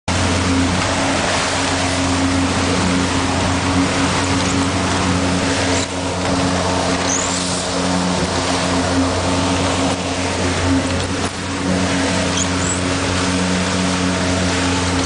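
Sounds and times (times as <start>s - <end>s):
boat engine droning: 0.1s - 15.0s
water rushing against hull: 0.1s - 15.0s.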